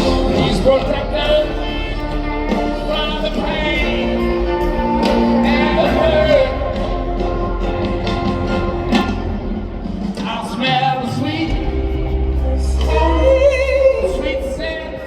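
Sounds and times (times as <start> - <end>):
bass guitar: 0.0 - 15.0
keyboards: 0.0 - 15.0
person singing with vibrato: 0.0 - 15.0.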